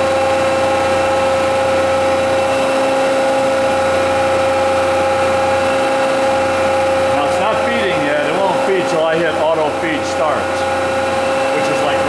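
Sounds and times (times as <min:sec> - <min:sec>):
grinding machine humming and whining: 0:00.0 - 0:12.0.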